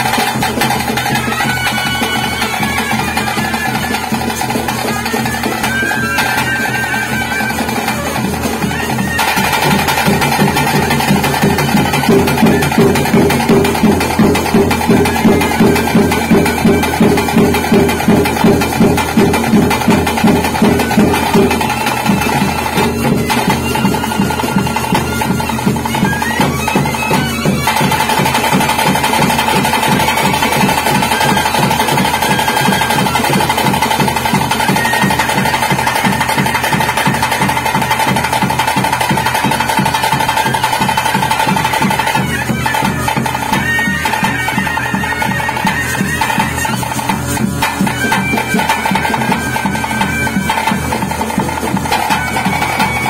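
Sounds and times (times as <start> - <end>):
drums beating: 0.0 - 53.0
wind instrument playing: 0.0 - 53.0.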